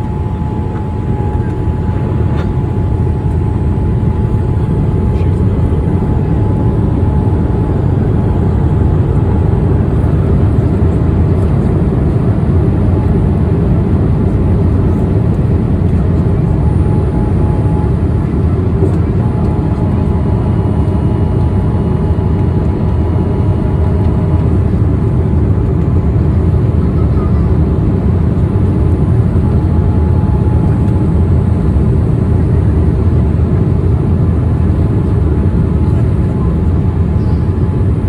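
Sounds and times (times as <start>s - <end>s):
aircraft cabin engine rush: 0.0s - 38.0s.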